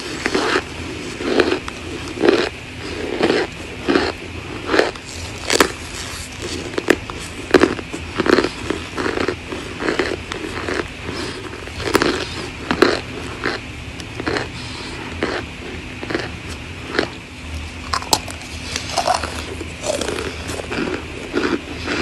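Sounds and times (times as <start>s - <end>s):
cornstarch crunching and squeaking: 0.0s - 13.6s, 14.2s - 17.2s, 17.8s - 22.0s.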